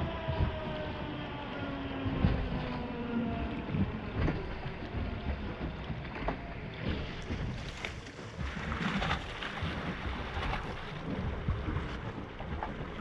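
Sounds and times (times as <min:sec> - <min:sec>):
water lapping against a boat: 0:00.0 - 0:13.0
wind buffeting microphone: 0:00.0 - 0:13.0.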